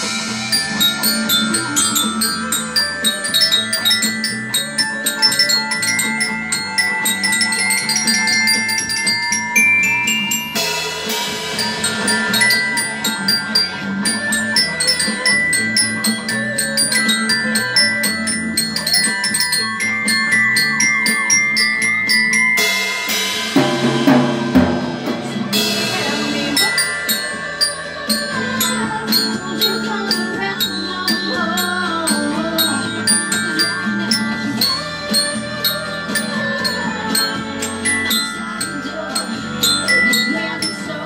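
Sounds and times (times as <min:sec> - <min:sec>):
glockenspiel melody: 0:00.0 - 0:41.0.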